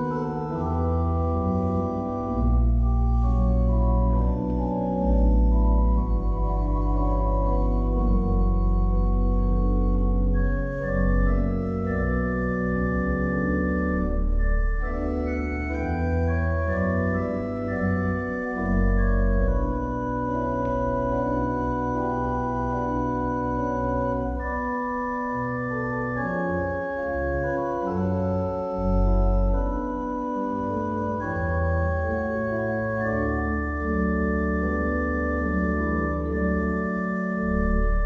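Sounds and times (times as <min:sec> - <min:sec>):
church organ chords: 0:00.0 - 0:38.0.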